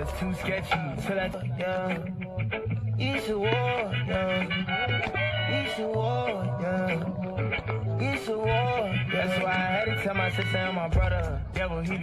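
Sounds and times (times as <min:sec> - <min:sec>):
song with bass line: 0:00.0 - 0:12.0.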